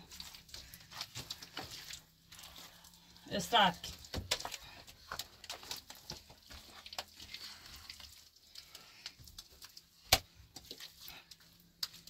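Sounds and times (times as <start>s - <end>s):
crackling and rustling handling: 0.0s - 12.0s.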